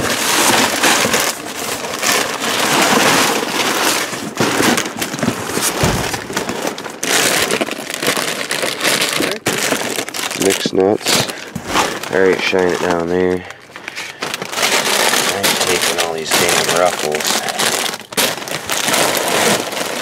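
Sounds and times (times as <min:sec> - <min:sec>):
bags scraping cardboard boxes: 0:00.0 - 0:20.0
chip bags crinkling: 0:00.0 - 0:20.0.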